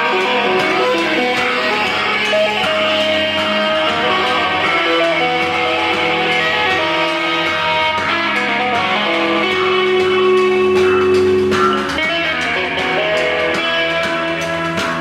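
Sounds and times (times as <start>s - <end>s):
electric guitar sustained notes: 0.0s - 15.0s
rock band playing live: 0.0s - 15.0s.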